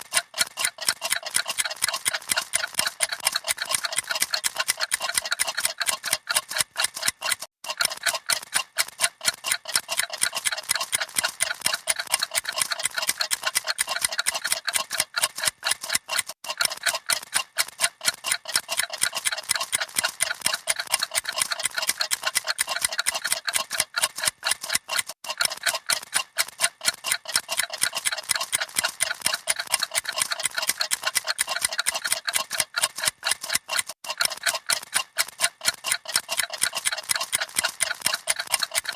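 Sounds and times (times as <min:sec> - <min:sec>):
clocks ticking: 0:00.0 - 0:38.9.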